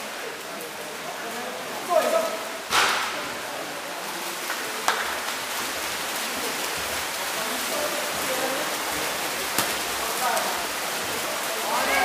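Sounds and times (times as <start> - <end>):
swimmers splashing water: 0.0 - 12.0.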